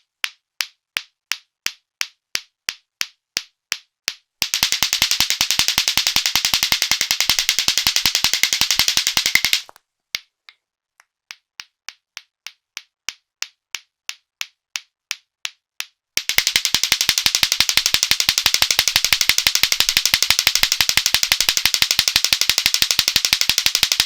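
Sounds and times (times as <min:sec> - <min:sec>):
plastic clacker balls clacking: 0:03.7 - 0:10.6, 0:11.3 - 0:24.0.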